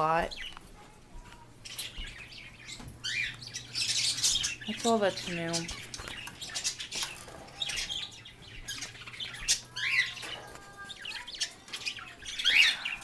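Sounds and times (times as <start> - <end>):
parrots chirping and squawking: 0.0 - 13.0.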